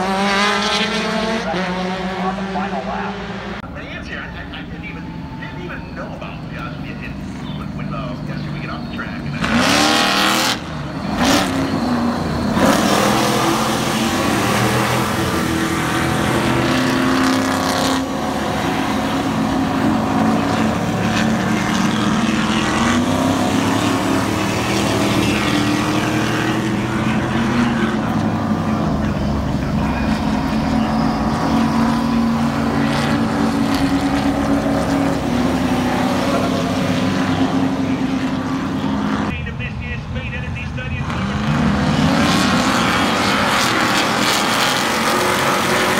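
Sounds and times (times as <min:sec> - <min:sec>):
race truck engines revving: 0:00.0 - 0:45.9.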